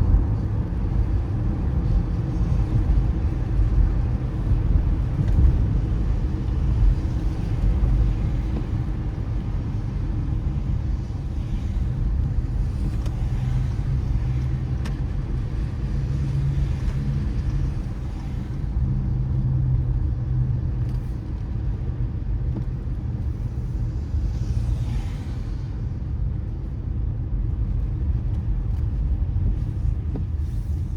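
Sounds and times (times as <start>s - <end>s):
car driving on wet road: 0.0s - 30.9s.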